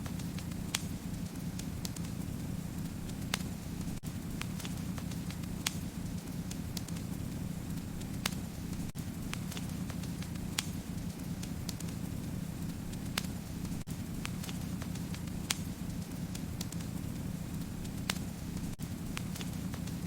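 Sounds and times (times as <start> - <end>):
fire crackles and pops: 0.0 - 20.0
low rumble of flames: 0.0 - 20.0.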